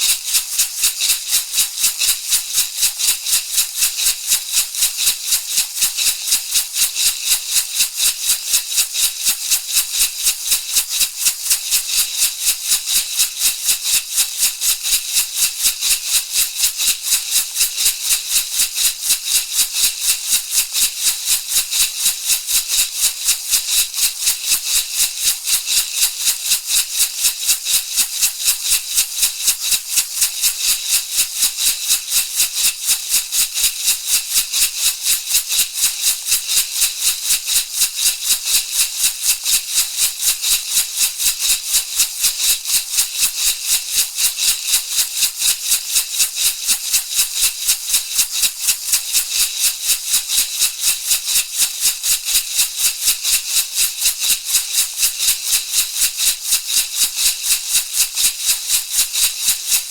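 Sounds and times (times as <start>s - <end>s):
rattle shaken rhythmically: 0.0s - 59.9s.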